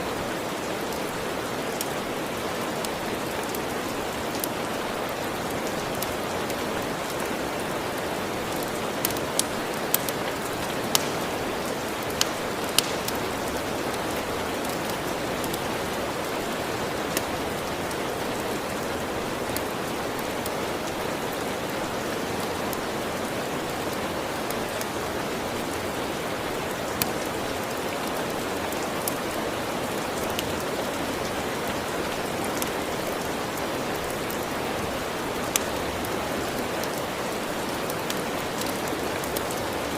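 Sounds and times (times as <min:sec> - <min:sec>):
steady rain: 0:00.0 - 0:39.9
wood fire crackling: 0:00.1 - 0:39.9.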